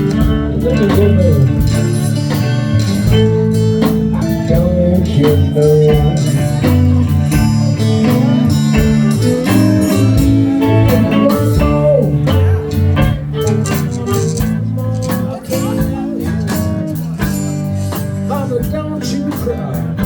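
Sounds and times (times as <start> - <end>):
bass line: 0.0 - 20.0
bending guitar notes: 0.0 - 20.0
steady drum beat: 0.0 - 20.0.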